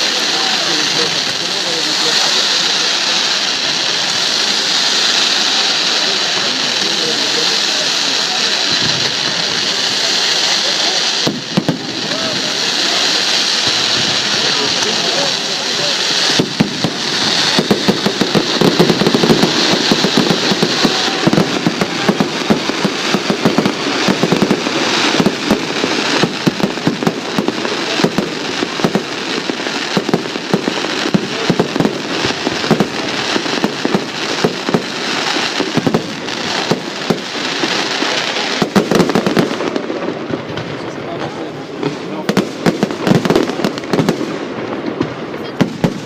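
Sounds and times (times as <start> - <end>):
fireworks crackling and popping: 0.0 - 46.0.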